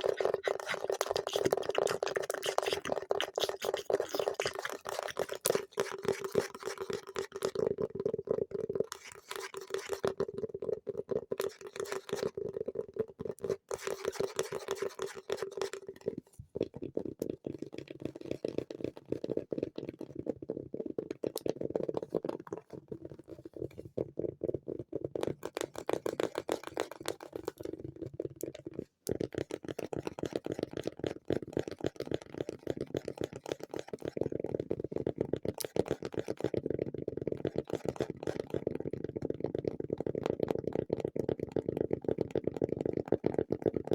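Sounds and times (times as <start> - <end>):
fast tapping on objects: 0.0 - 43.9.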